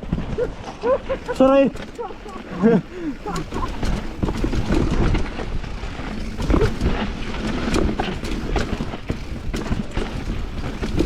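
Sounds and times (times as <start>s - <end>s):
bike clicks and rattles: 0.0s - 11.0s
bike tyres rumbling on dirt: 0.0s - 11.0s.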